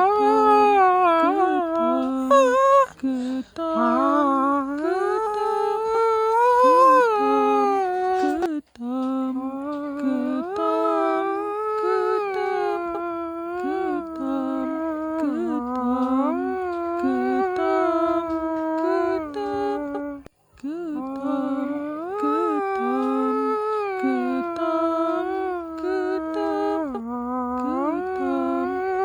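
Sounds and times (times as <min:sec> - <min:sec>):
person singing wordless melody: 0:00.0 - 0:29.0.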